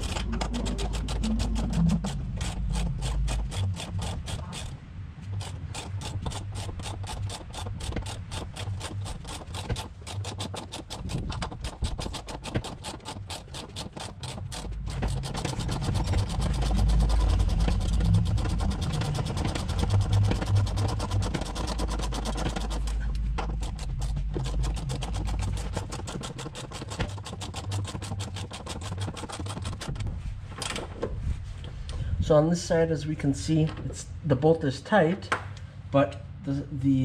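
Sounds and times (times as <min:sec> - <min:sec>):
low hum: 0:00.0 - 0:37.0.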